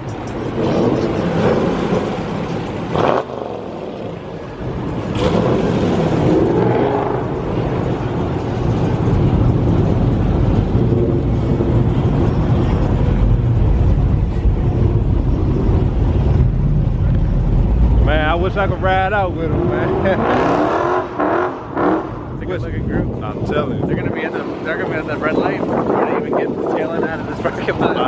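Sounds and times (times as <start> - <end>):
car engines rumbling: 0.0 - 28.0.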